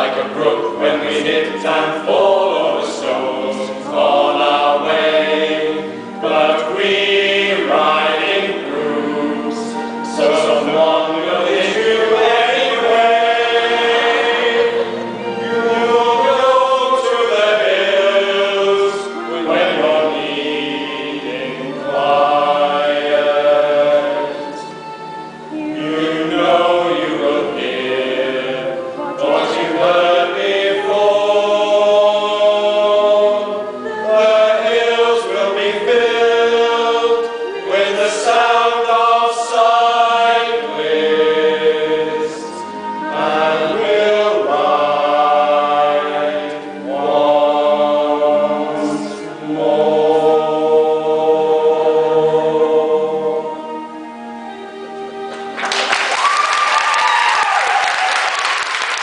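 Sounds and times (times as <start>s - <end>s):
male choir singing: 0.0s - 54.8s.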